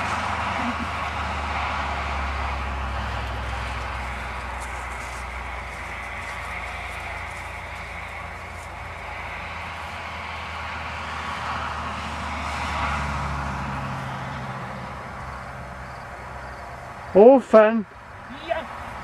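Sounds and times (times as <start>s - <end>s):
vehicle passing in distance: 0.0s - 19.0s.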